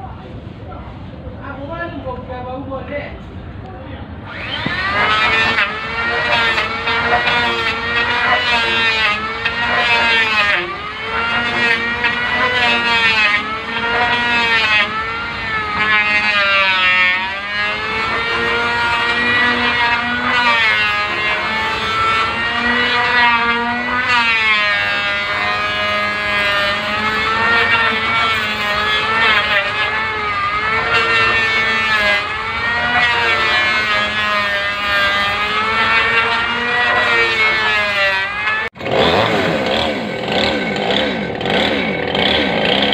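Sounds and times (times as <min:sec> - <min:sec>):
power tool cutting wood: 0:04.2 - 0:42.9.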